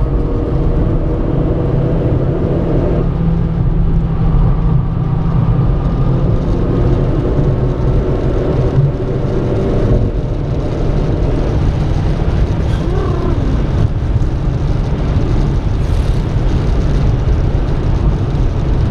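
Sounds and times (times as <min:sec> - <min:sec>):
car engine running: 0:00.0 - 0:18.9
road and wind noise: 0:00.0 - 0:18.9.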